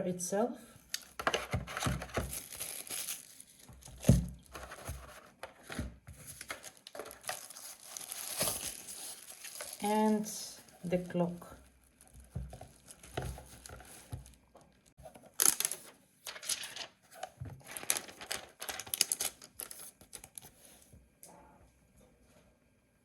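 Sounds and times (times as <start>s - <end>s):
packaging rustling and crinkling: 0.9s - 20.5s.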